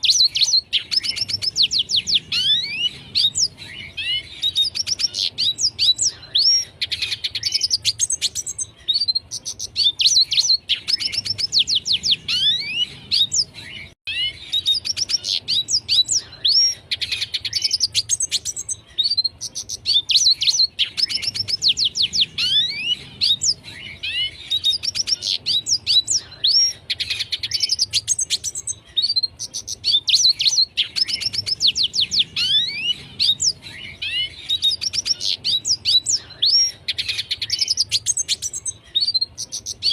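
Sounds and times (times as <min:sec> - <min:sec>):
bird singing fast twittering: 0:00.0 - 0:39.9.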